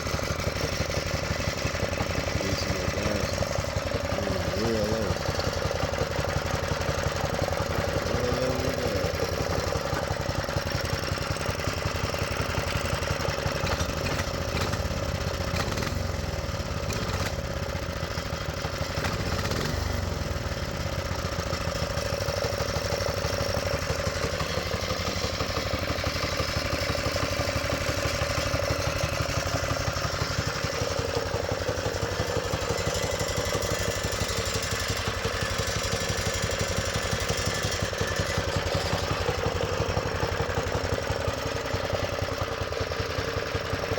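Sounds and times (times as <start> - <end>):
small engine running steadily: 0.0 - 43.9.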